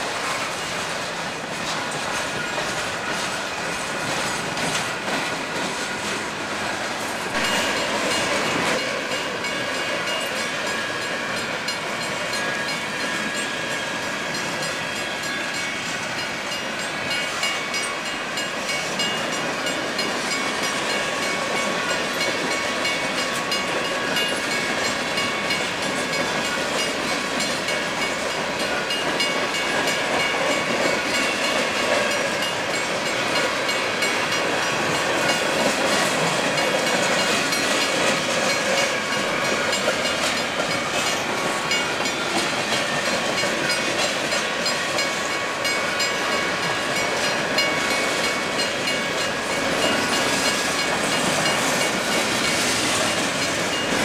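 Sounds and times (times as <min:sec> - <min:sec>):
freight train rolling past: 0:00.0 - 0:54.0
wheels clicking over rail joints: 0:00.0 - 0:54.0.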